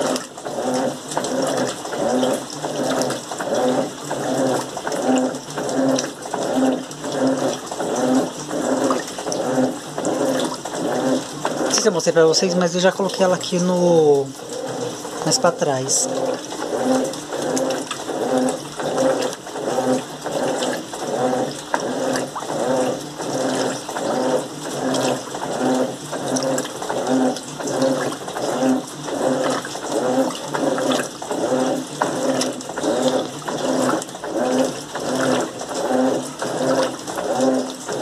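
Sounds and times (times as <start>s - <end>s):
washing machine churning and sloshing: 0.0s - 38.0s.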